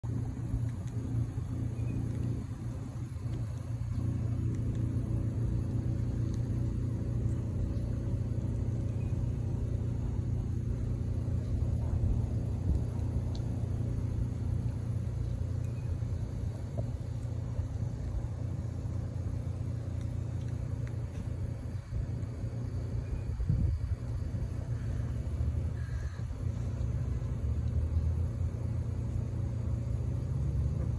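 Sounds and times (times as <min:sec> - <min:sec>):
steady low rumble with hum: 0:00.0 - 0:30.9.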